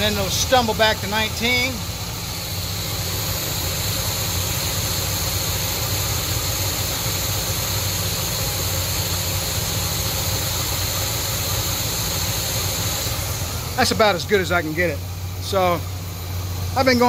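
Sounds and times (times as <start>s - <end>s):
car engine idling unevenly: 0.0s - 17.0s.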